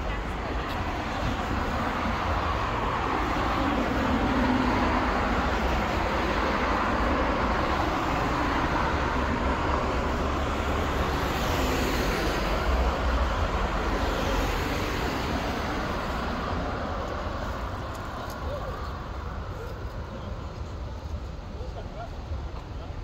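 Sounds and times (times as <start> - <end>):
cars passing on road: 0.0 - 23.0.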